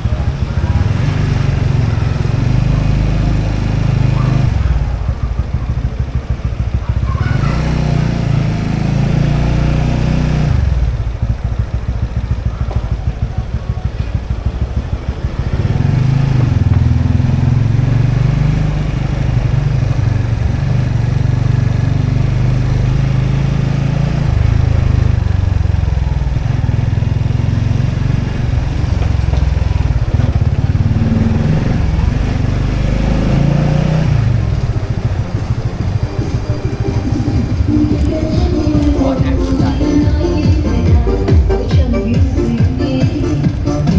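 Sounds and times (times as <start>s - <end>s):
motorbike engine running: 0.0s - 43.9s.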